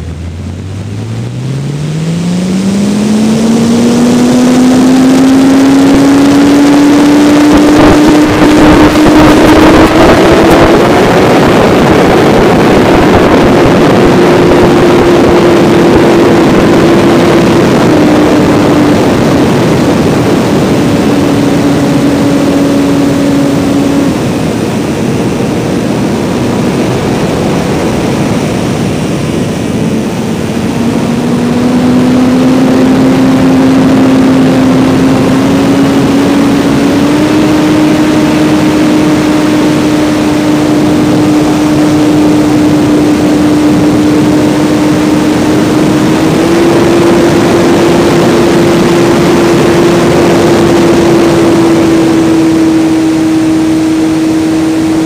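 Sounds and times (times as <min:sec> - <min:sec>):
electric motor and propeller whine: 0:00.0 - 0:55.0
rushing air: 0:00.0 - 0:55.0.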